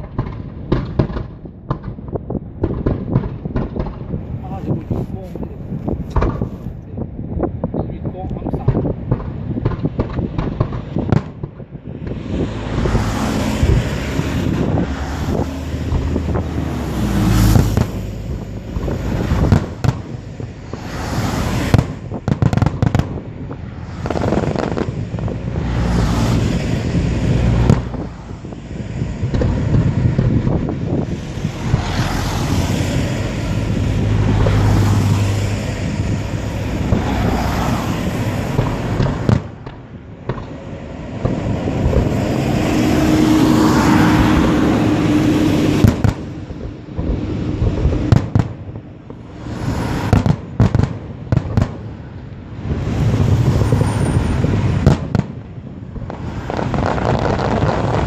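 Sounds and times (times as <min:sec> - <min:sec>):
fireworks bangs and crackling: 0:00.0 - 0:58.0
loud fireworks booms: 0:00.0 - 0:58.0.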